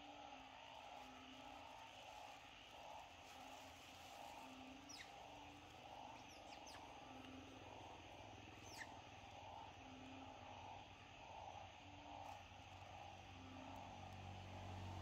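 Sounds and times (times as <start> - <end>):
steady background drone: 0.1 - 15.0.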